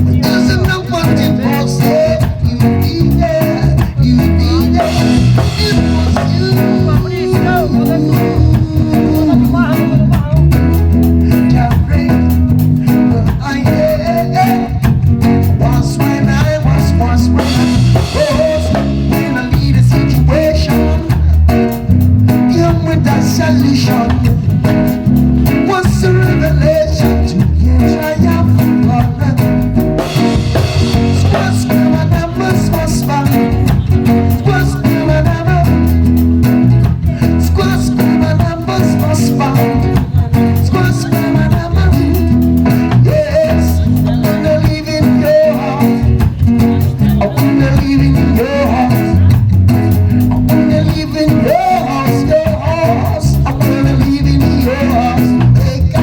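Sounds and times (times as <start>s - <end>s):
live band playing reggae groove: 0.0s - 56.0s.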